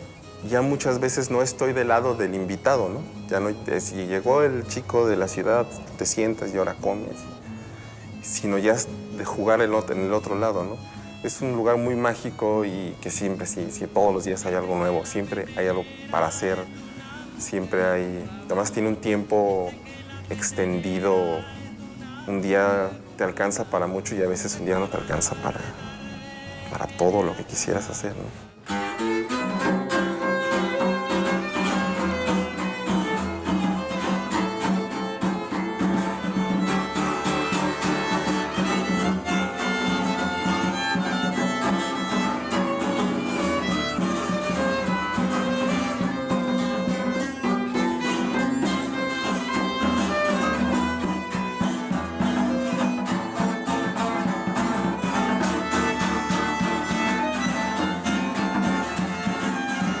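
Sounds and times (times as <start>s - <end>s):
string ensemble music: 0.0s - 60.0s
violin melody: 0.0s - 60.0s.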